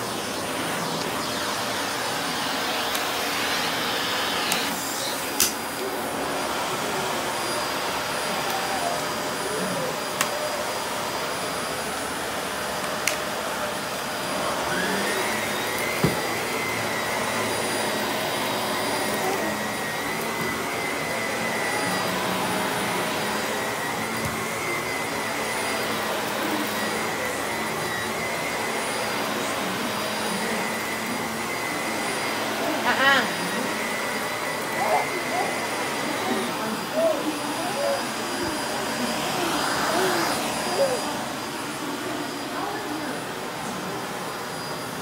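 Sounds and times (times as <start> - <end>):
vacuum cleaner running: 0.0 - 45.0.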